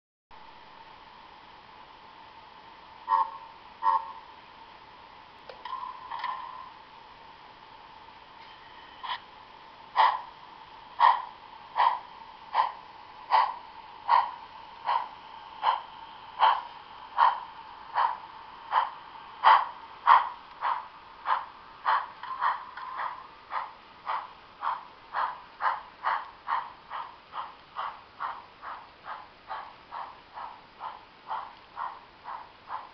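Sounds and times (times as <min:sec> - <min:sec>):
model steam locomotive chuffing: 0:03.0 - 0:04.6, 0:05.6 - 0:06.9, 0:08.4 - 0:32.9.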